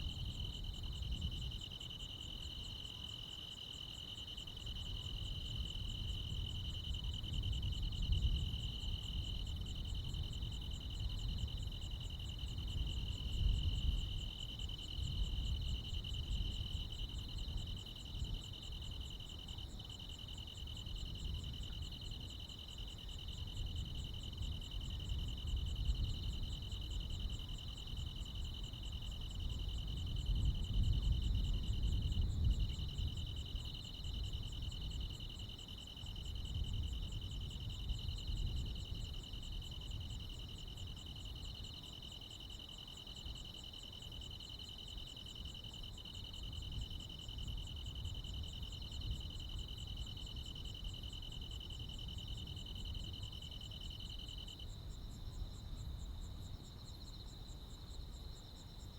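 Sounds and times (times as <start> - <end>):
crickets trilling: 0.0 - 58.9
rapidly pulsing insect chirp: 0.0 - 58.9.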